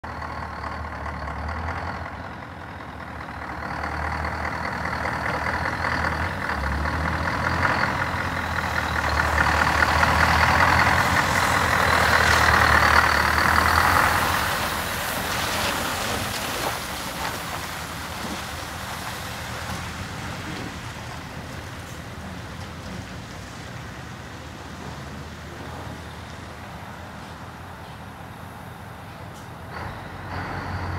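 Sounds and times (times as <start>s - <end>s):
truck diesel engine passing by: 0.0s - 30.9s.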